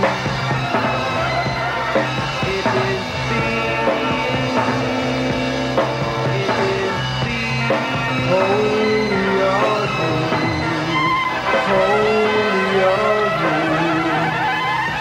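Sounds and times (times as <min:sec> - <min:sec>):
psychedelic rock music: 0:00.0 - 0:15.0.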